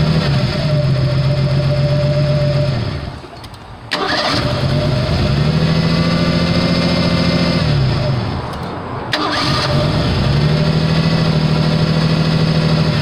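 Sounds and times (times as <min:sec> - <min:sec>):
car engine running and idling: 0:00.0 - 0:13.0.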